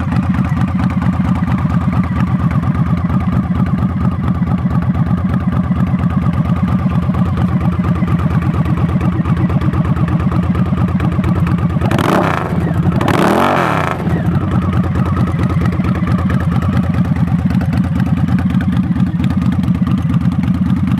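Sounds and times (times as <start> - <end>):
motorcycle engine idling and blipped: 0.0 - 20.9.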